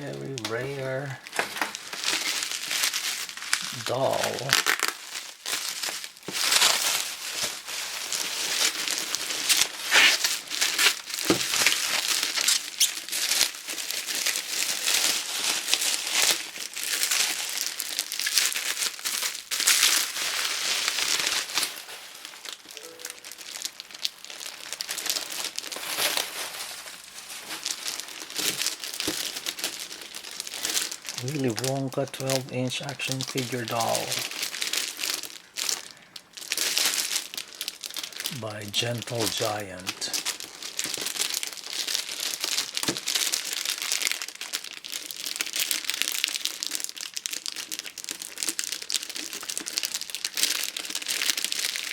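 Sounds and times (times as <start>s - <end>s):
plastic packaging crinkling: 0.0s - 51.9s
small crackles and clicks: 0.4s - 26.4s, 27.3s - 51.9s.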